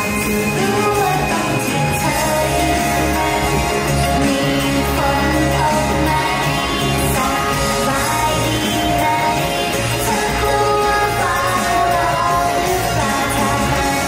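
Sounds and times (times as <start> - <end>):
woman singing into microphone: 0.0 - 14.0.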